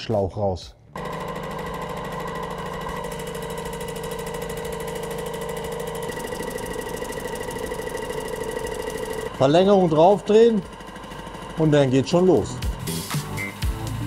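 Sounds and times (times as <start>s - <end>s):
paint sprayer pump pulsing hum: 0.9s - 14.0s.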